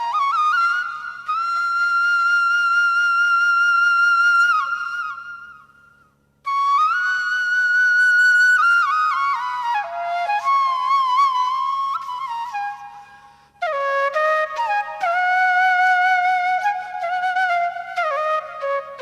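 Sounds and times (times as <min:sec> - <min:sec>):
solo flute music: 0:00.0 - 0:19.0.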